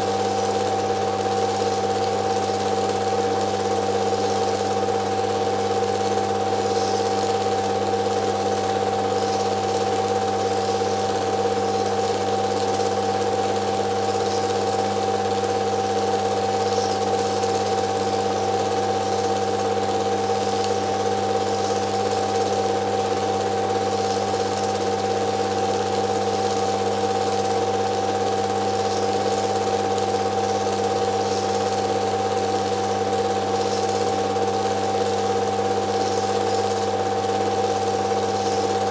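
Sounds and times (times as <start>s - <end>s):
film projector hum and whir: 0.0s - 38.9s.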